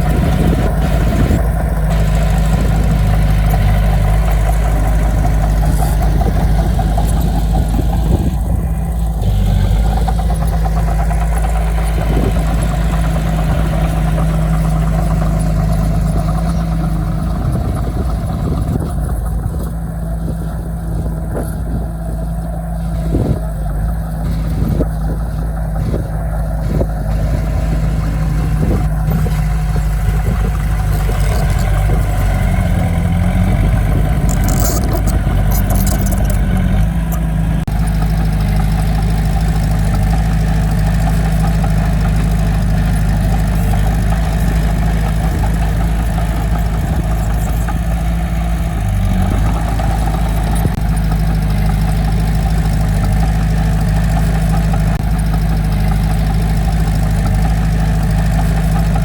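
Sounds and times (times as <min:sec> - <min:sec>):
diesel earthmoving equipment drone: 0:00.0 - 0:59.0.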